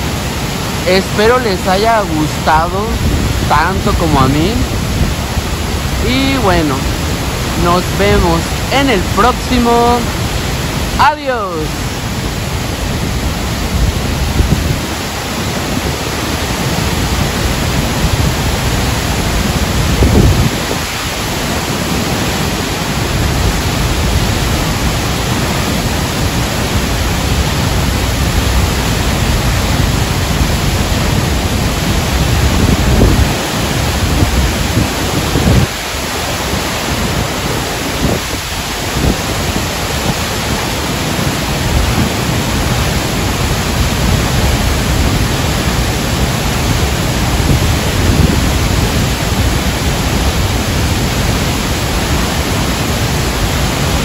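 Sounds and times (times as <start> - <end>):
low rumble of falling water: 0.0 - 54.0
waterfall rushing: 0.0 - 54.0.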